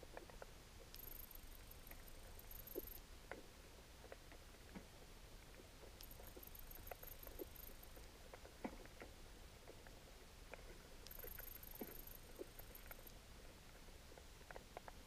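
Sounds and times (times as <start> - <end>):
soft underwater clicks: 0.0 - 15.0.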